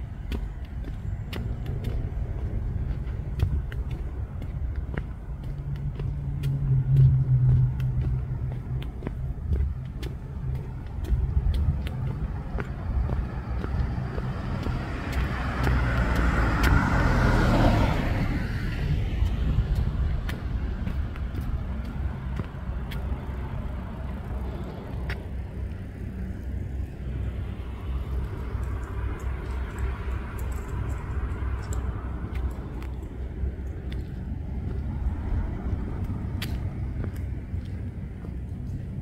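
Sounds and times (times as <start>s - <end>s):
car passing by: 0.0s - 39.0s
steady low rumble: 0.0s - 39.0s.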